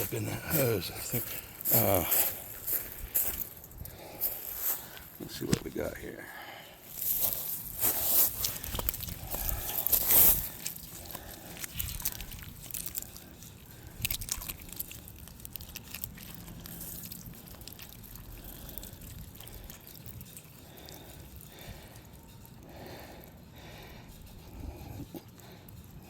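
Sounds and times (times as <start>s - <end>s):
water trickling from hose: 0.0s - 26.0s.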